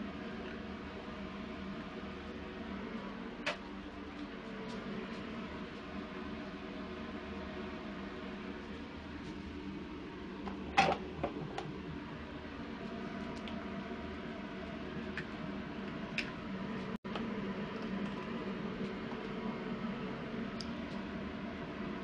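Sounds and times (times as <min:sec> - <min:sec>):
ventilation fan humming: 0:00.0 - 0:22.0.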